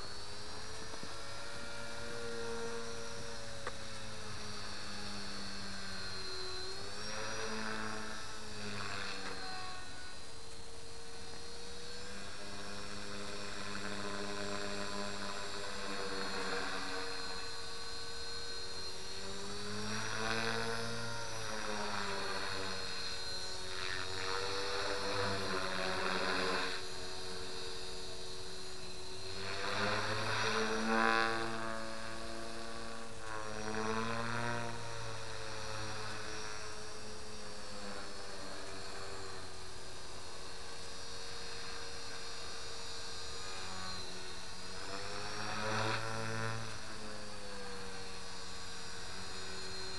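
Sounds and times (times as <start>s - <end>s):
rc helicopter rotors whining: 0.0s - 49.9s
steady hum: 0.0s - 49.9s.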